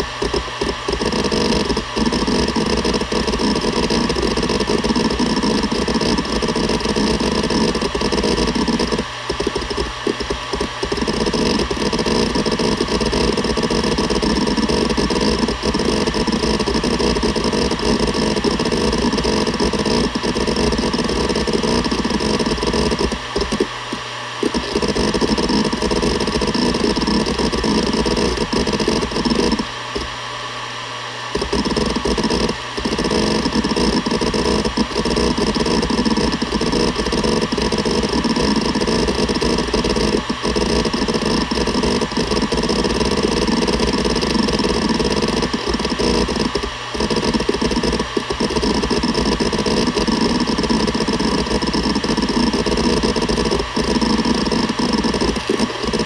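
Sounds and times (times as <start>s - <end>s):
hard drive head chattering: 0.0s - 30.2s, 31.3s - 56.0s
hard drive platters humming: 0.0s - 56.0s.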